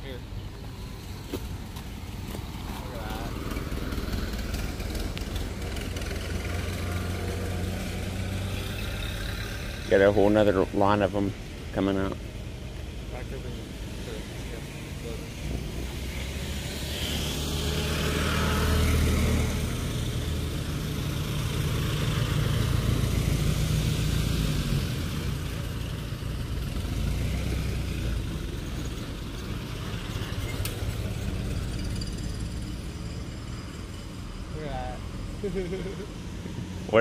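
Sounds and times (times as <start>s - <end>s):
old cars driving past: 0.0s - 37.0s.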